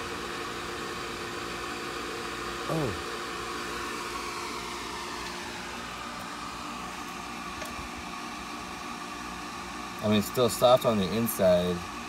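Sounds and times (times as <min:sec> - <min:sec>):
fan whirring with hiss: 0:00.0 - 0:12.0.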